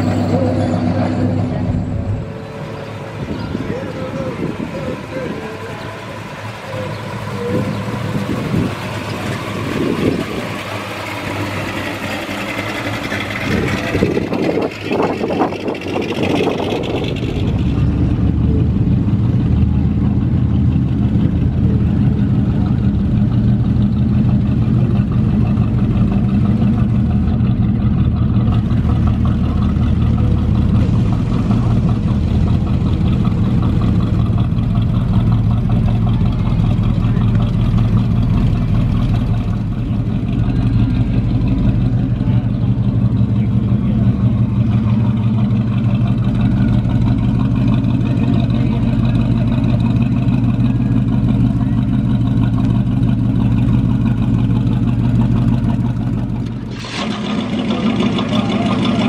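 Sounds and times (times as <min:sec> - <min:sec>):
car engine idling rumble: 0:00.0 - 0:59.0
passing cars: 0:00.0 - 0:59.0.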